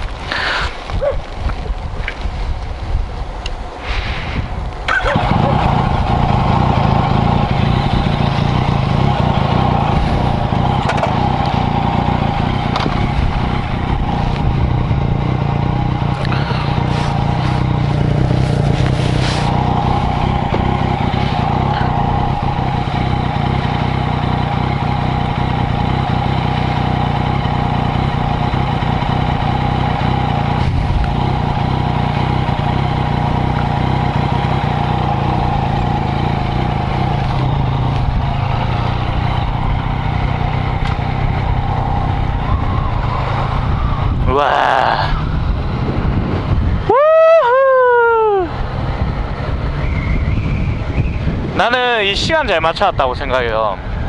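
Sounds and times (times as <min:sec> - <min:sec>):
motorcycle engine idling: 0:04.5 - 0:54.0.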